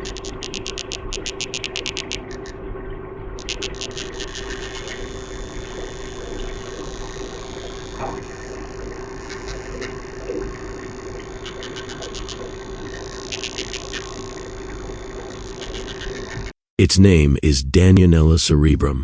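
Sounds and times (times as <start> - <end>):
steady hum and hiss: 0.0 - 17.3.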